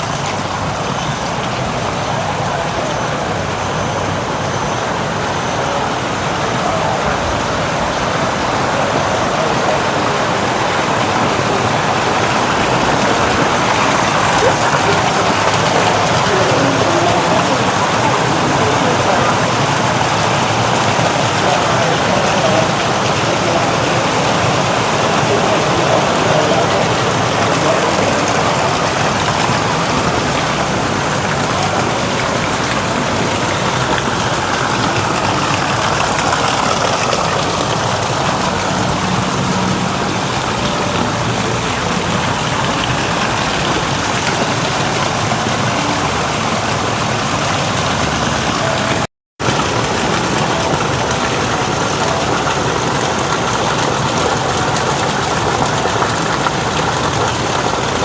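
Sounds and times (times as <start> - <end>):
water falling in water feature: 0.0 - 58.0.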